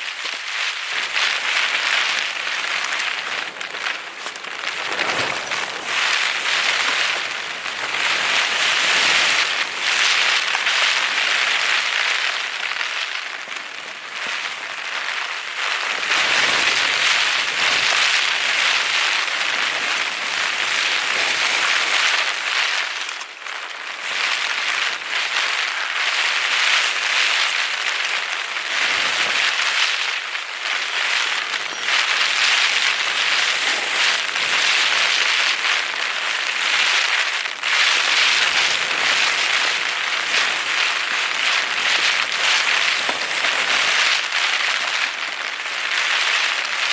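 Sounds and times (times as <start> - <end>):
heavy rain on a tent: 0.0 - 46.9.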